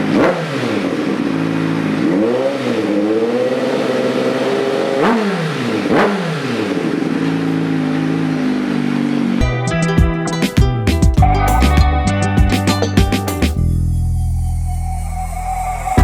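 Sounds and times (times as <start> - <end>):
motorcycle engine idling and revving: 0.0 - 14.4.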